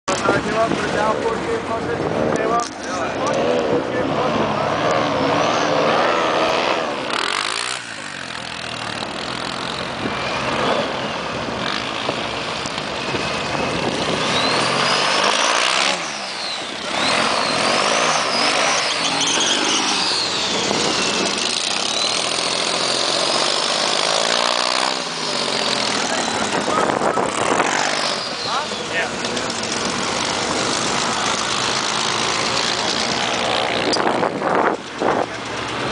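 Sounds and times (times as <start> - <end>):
airboat engine and propeller: 0.1 - 35.9.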